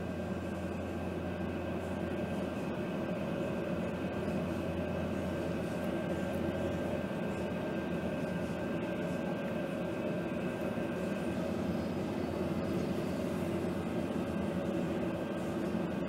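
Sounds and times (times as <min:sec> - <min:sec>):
boat engines droning: 0:00.0 - 0:16.0.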